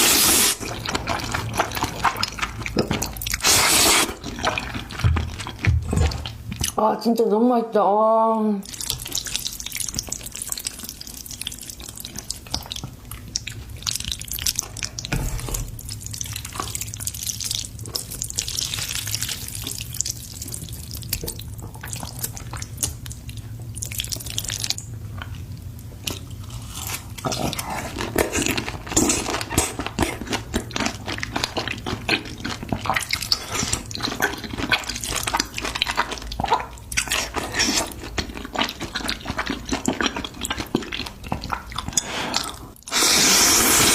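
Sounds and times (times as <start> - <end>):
slurping and chewing noodles: 0.0 - 6.8, 8.7 - 43.9.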